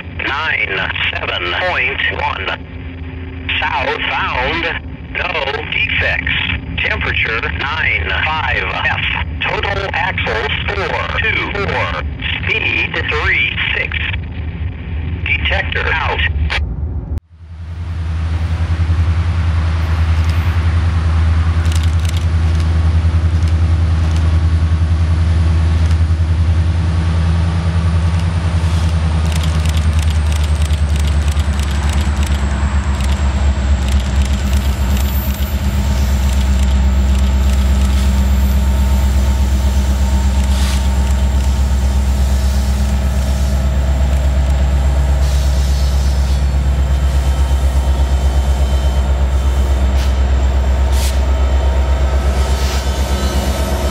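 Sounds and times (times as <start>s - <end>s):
locomotive engine drone: 0.0s - 53.9s.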